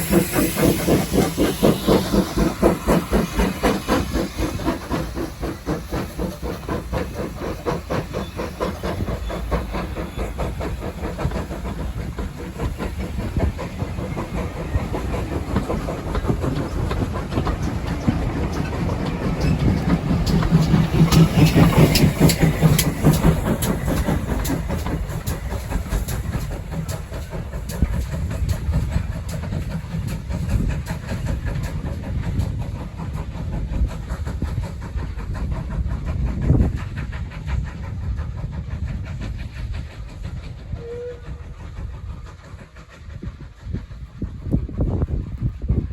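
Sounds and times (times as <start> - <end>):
steam locomotive exhaust beats: 0.0 - 45.9
train wheel clatter: 0.0 - 45.9.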